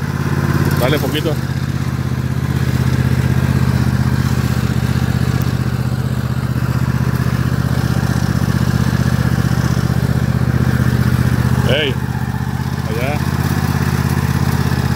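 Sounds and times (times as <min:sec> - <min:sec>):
riding mower engine running: 0:00.0 - 0:14.9.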